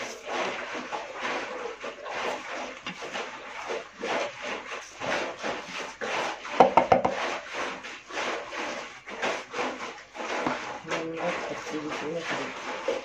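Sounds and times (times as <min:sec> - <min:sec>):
hands rubbing semolina on wood: 0:00.0 - 0:13.0.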